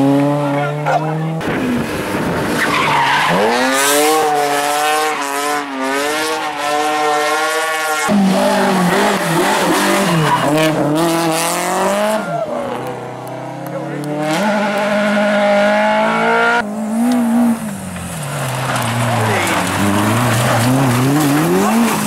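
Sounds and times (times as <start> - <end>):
engine shifting gears: 0.0 - 22.0
rally car engine revving: 0.0 - 22.0.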